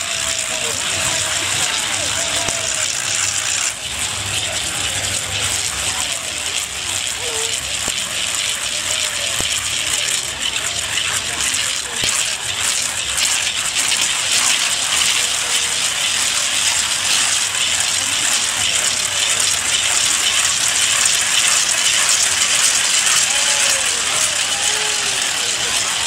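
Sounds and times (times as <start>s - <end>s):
wooden ratchet rattles clattering: 0.0s - 26.0s.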